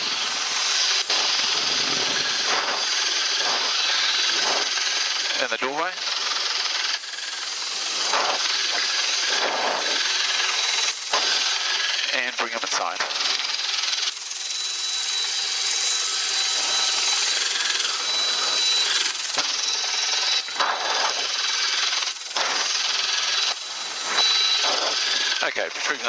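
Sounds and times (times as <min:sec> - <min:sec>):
faint high helicopter whine: 0:00.0 - 0:26.0.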